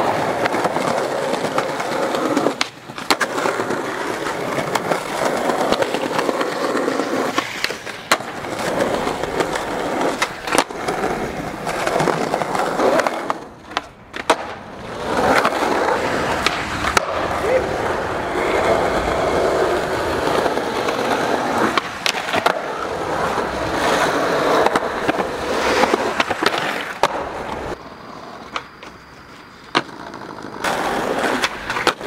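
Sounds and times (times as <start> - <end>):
skateboard landing slaps: 0.0 - 17.6, 20.2 - 27.8, 29.6 - 32.0
skateboard tail pops: 0.0 - 17.6, 20.4 - 27.8, 28.4 - 29.0, 29.6 - 32.0
skateboard wheels rolling on pavement: 0.0 - 32.0.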